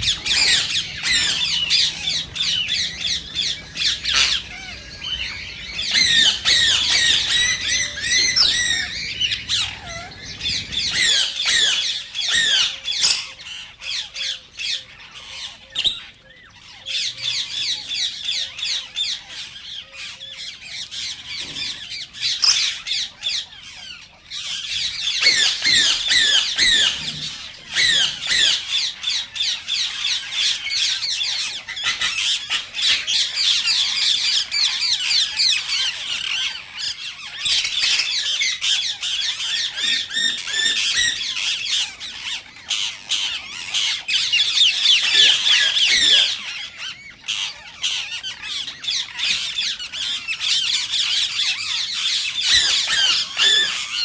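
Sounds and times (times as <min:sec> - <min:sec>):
parakeet squawking: 0:00.0 - 0:54.0.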